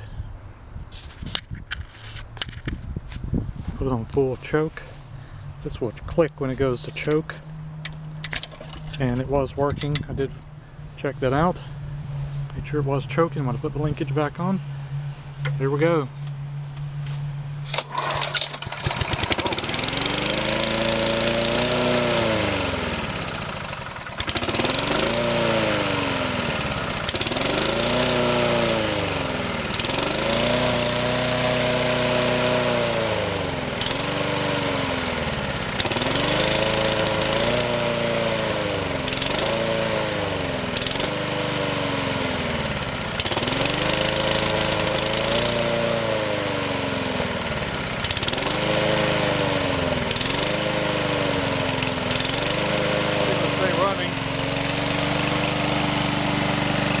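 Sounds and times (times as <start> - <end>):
lawn mower pull-start: 1.0 - 57.0
lawn mower engine surging: 3.4 - 57.0.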